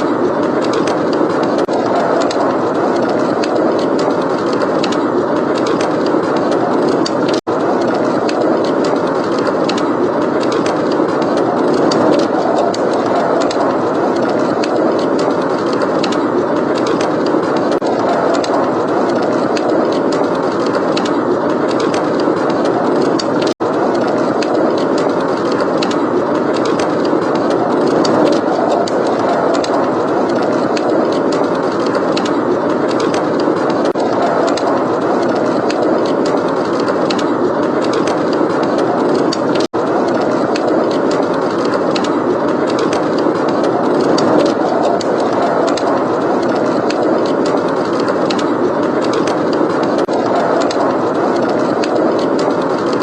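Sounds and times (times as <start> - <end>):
blizzard wind blowing: 0.0 - 53.0
wood fire crackling: 0.0 - 53.0.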